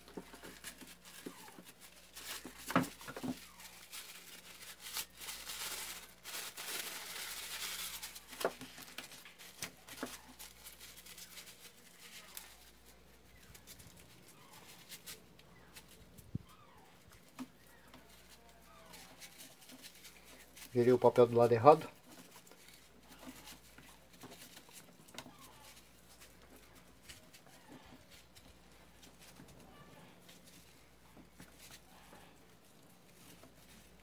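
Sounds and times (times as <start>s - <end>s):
paper towel rustling and rubbing: 0.0s - 34.0s.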